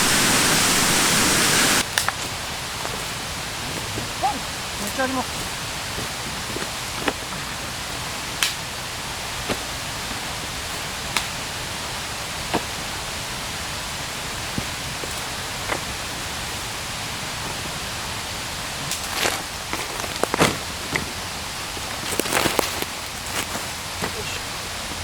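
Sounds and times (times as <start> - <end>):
stream flowing: 0.0 - 25.0.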